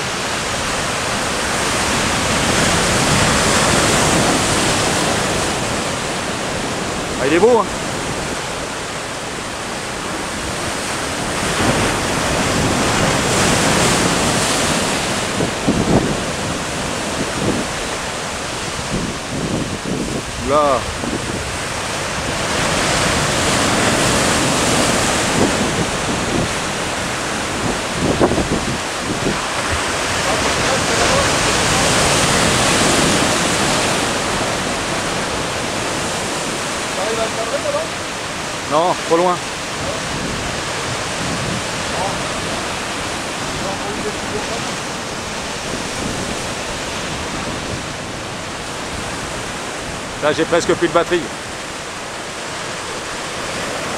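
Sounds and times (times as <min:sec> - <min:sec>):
surf breaking over rocks: 0:00.0 - 0:53.9
wind buffeting microphone: 0:00.0 - 0:53.9.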